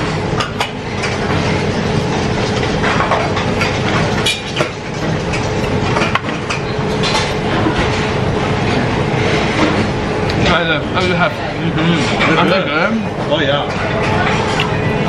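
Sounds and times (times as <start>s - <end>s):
conveyor belt rattle and hum: 0.0s - 15.0s.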